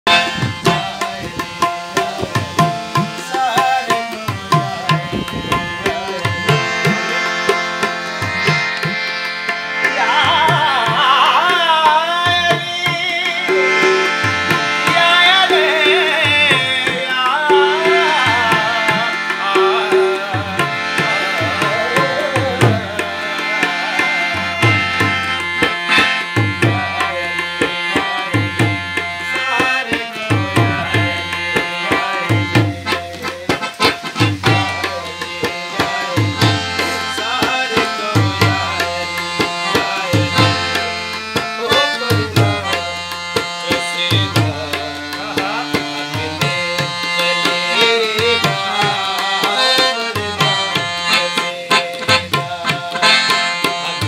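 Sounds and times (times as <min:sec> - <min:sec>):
harmonium notes: 0:00.0 - 0:54.0
tabla rhythm: 0:00.0 - 0:54.0
man singing: 0:00.1 - 0:54.0.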